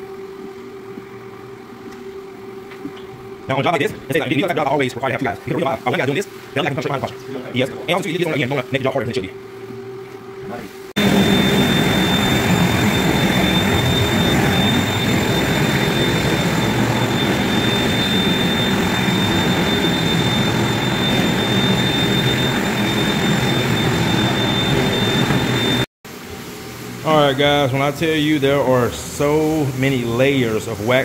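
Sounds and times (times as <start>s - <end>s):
scrubbing machine motor whine: 0.8s - 25.9s.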